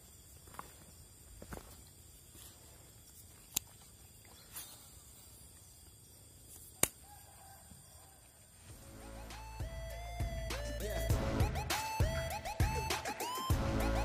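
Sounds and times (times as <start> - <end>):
insect-like hiss: 0.0 - 13.5.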